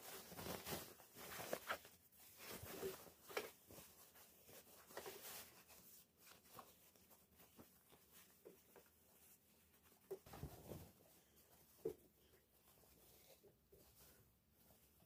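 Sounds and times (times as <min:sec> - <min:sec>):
soft rustles of small objects: 0:00.0 - 0:15.0.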